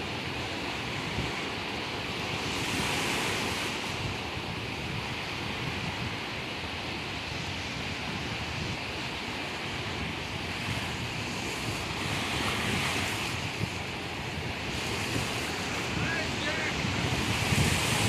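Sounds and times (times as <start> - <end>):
waves washing on beach: 0.0 - 18.0
wind buffeting microphone: 0.0 - 18.0.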